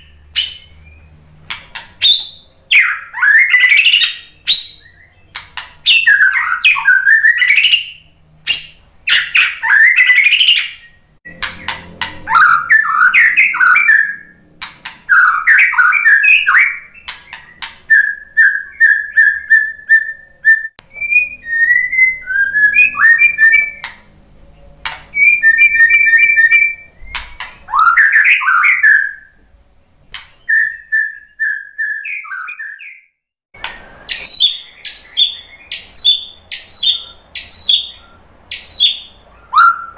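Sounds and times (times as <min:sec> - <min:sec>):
bird singing whistled phrases: 0:02.0 - 0:11.0, 0:12.3 - 0:14.3, 0:15.1 - 0:23.9, 0:25.1 - 0:29.4, 0:30.4 - 0:33.1, 0:34.0 - 0:39.9.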